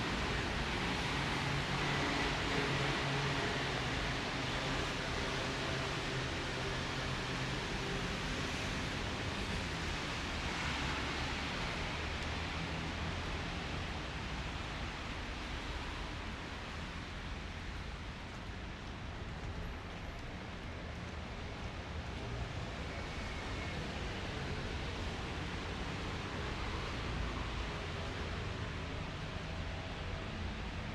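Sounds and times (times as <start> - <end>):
rain hissing on wet street: 0.0 - 30.9.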